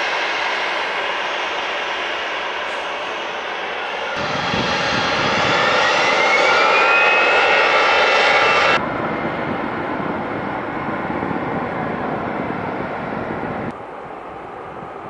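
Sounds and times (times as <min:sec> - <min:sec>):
airliner turbine whine: 0:00.0 - 0:15.0.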